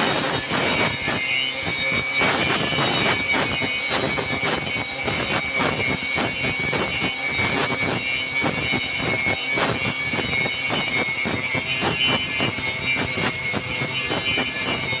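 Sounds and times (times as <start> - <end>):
machine high whine: 0.0 - 15.0.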